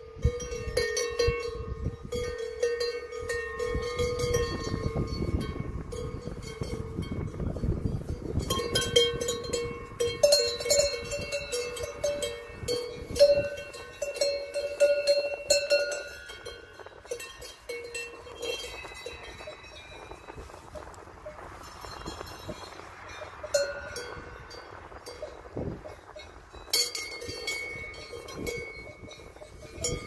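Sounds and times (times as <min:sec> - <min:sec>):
cowbells clanking: 0:00.0 - 0:30.0.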